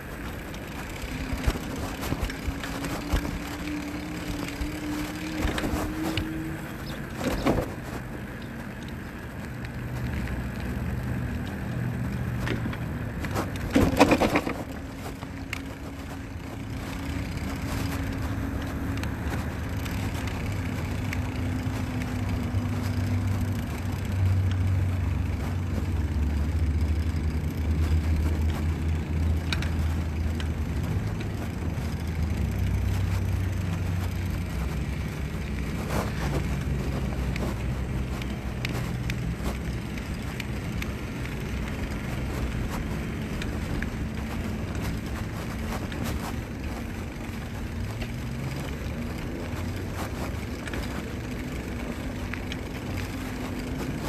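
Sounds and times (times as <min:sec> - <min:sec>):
bicycle rolling on asphalt: 0:00.0 - 0:54.0.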